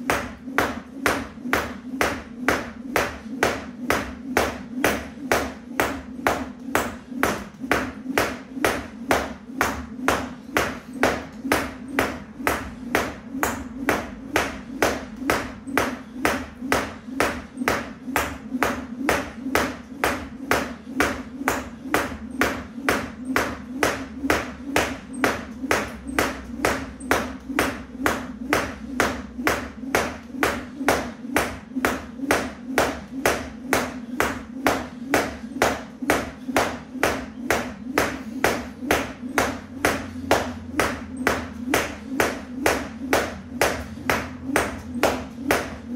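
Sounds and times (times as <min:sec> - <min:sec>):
skipping rope slapping floor: 0:00.0 - 0:45.9.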